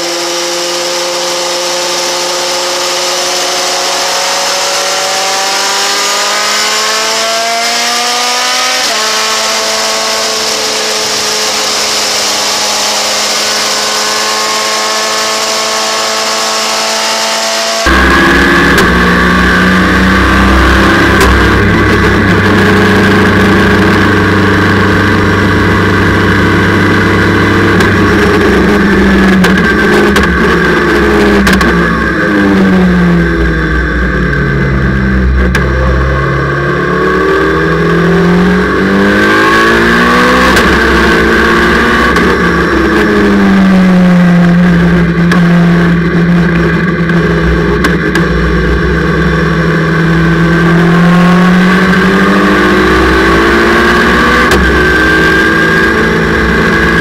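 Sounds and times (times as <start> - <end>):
engine at steady high revs: 0.0 - 57.0
race car engine accelerating: 0.0 - 57.0.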